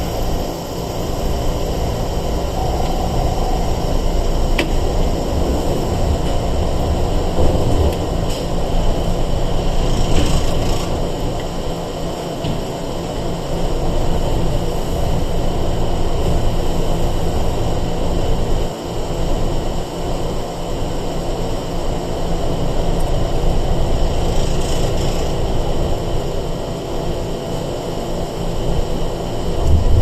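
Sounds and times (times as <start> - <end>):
constant hum: 0.0 - 30.0
train wheels rumbling on rail: 0.0 - 30.0.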